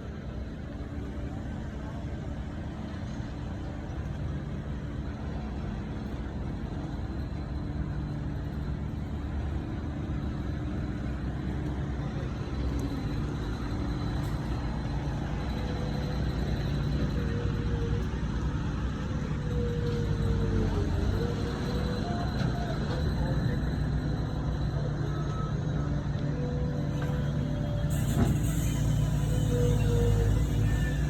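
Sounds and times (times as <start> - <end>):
road noise: 0.0 - 31.0
vehicle engine hum: 0.0 - 31.0.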